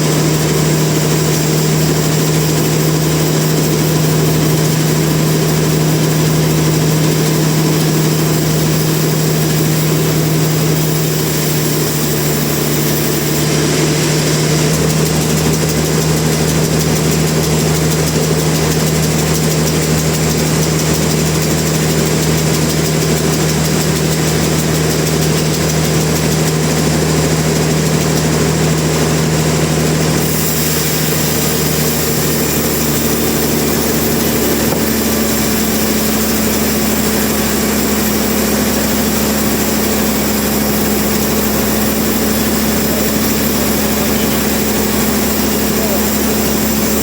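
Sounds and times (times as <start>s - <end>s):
machinery engine humming: 0.0s - 47.0s.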